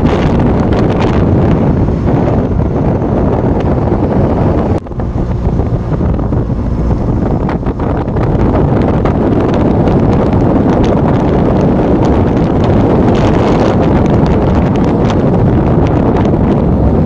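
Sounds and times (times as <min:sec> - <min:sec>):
vehicle road noise: 0:00.0 - 0:17.0
wind buffeting microphone: 0:00.0 - 0:17.0.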